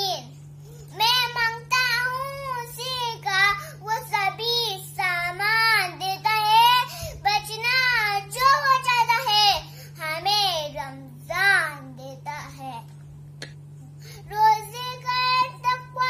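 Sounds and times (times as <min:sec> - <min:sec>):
girl singing: 0:00.0 - 0:12.9, 0:14.1 - 0:16.0
faint low hum: 0:00.0 - 0:16.0.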